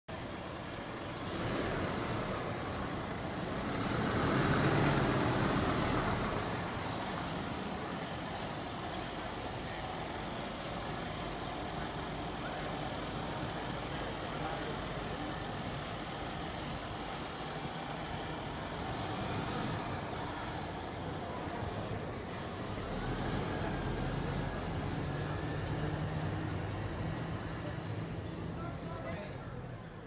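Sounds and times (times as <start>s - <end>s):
diesel truck engine passing: 0.1s - 30.0s.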